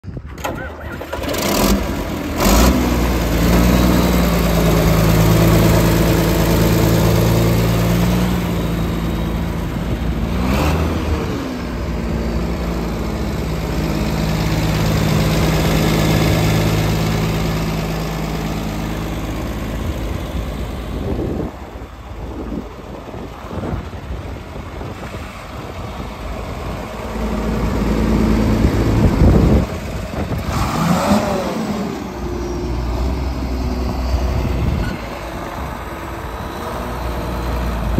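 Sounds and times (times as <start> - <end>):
tractor diesel engine starting: 0.0 - 37.9.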